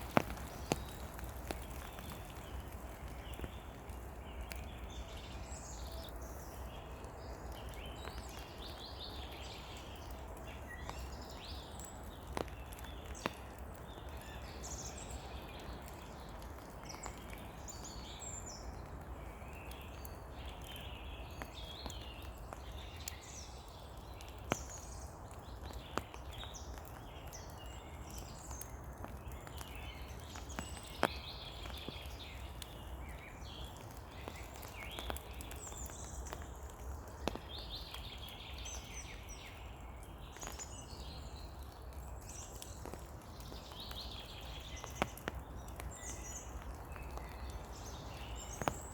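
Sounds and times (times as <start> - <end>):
rain pattering: 0.0 - 48.9
sharp drips: 0.0 - 48.9
songbirds chirping: 0.0 - 48.9.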